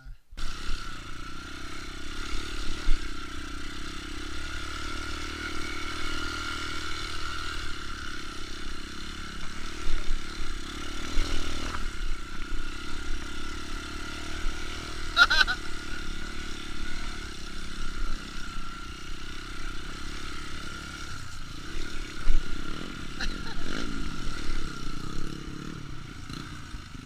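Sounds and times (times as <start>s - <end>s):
motorcycle engine droning: 0.0s - 27.0s.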